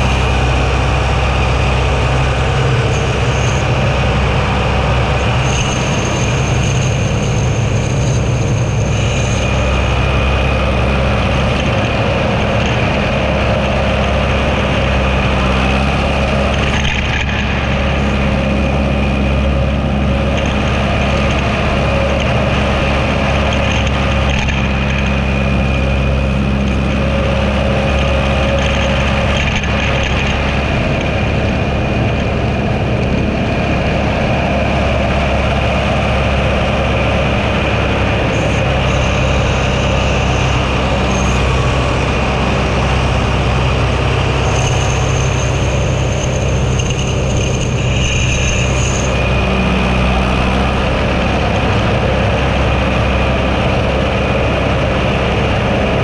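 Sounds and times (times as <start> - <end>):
faint high whine: 0.0 - 56.0
tractor engine running: 0.0 - 56.0.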